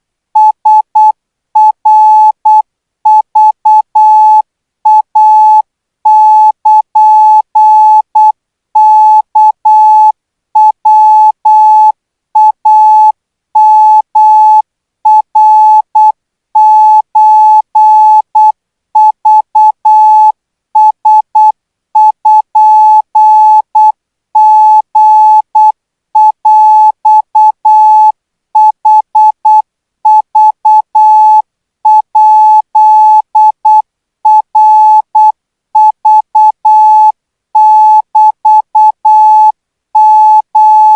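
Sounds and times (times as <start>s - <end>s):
morse code beeps: 0.4s - 40.9s.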